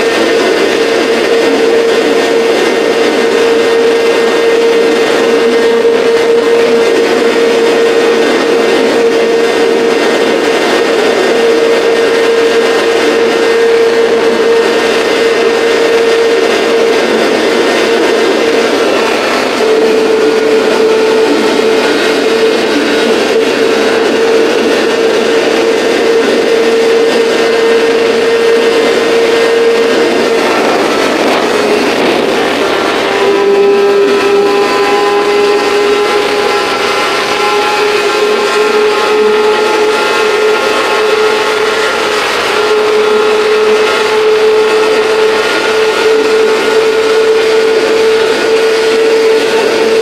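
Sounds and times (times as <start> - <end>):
engine droning at high revs: 0.0 - 50.0.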